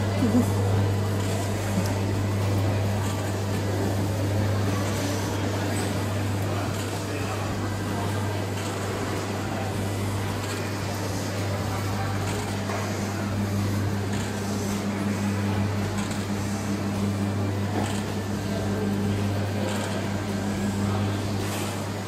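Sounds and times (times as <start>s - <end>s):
kiddie ride motor humming: 0.0s - 22.0s.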